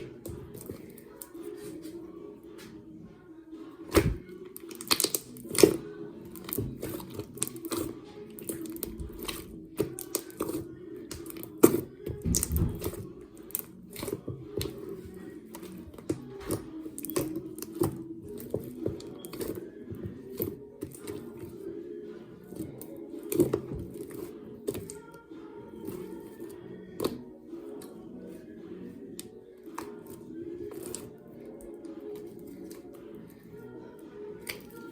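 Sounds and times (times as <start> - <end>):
hands squishing slime: 3.8 - 21.8, 22.4 - 34.9.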